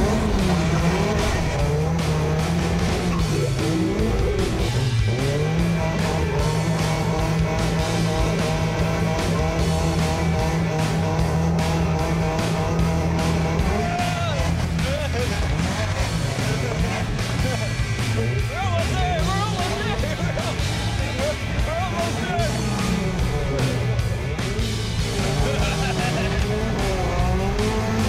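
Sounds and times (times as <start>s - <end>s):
car engine at high revs: 0.0s - 28.0s.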